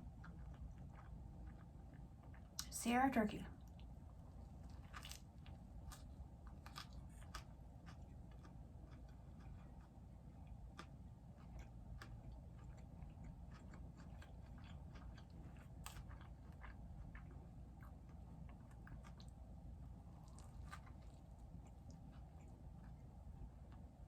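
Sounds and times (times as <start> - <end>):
chewing sandwich: 0.0 - 2.6, 3.6 - 24.0
low room hum: 0.0 - 24.0.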